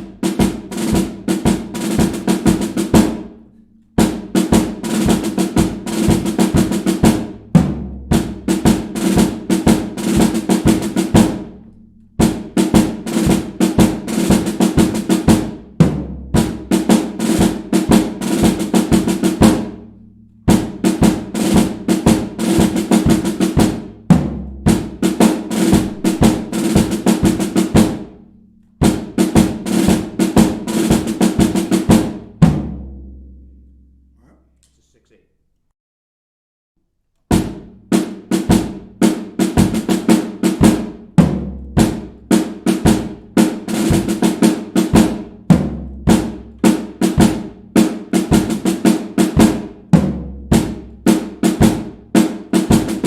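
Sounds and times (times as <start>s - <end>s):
snare drum rolls: 0.0s - 3.4s, 4.0s - 19.9s, 20.5s - 28.2s, 28.8s - 33.3s, 37.3s - 53.0s
bass drum beats: 4.0s - 33.6s, 37.3s - 47.8s, 48.4s - 53.0s.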